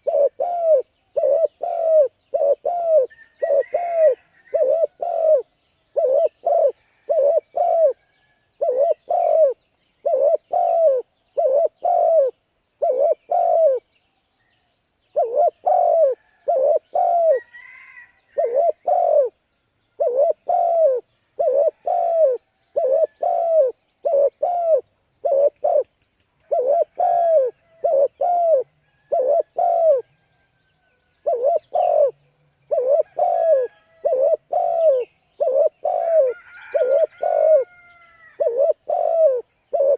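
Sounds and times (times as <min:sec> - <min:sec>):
dove cooing: 0:00.0 - 0:08.0, 0:08.6 - 0:13.8, 0:15.1 - 0:19.4, 0:20.0 - 0:30.1, 0:31.2 - 0:39.9.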